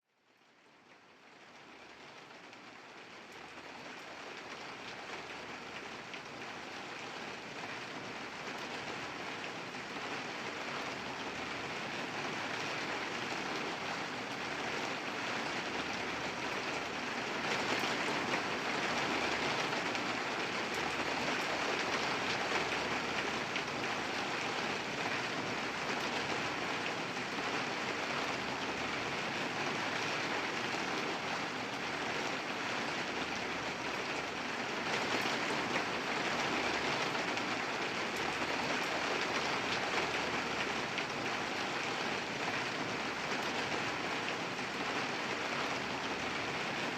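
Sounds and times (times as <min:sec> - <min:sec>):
steady rain falling: 0:00.1 - 0:46.9.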